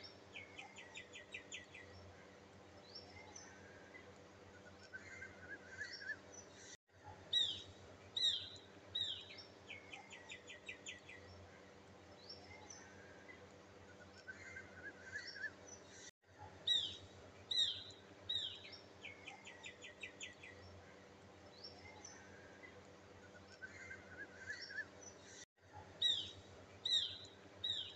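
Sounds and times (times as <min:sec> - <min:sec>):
birds chirping and trilling: 0:00.0 - 0:27.9.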